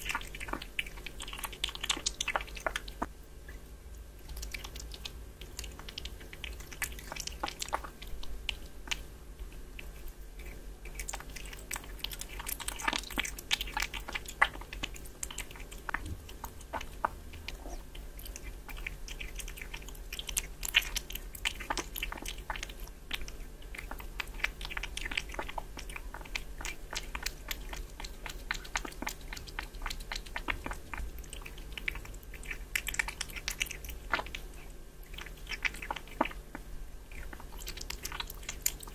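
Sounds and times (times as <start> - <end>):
kitten chewing meat: 0.0 - 38.9
low steady hum: 0.0 - 38.9.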